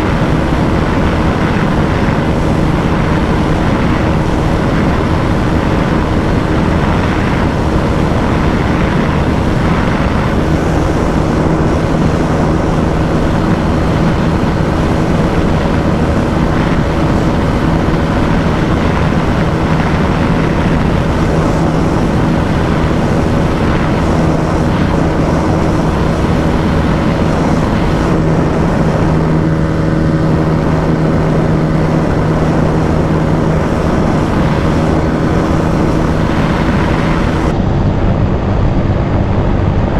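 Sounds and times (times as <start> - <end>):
motorcycle engine at high revs: 0.0 - 37.6
wind rushing over microphone: 0.0 - 39.9.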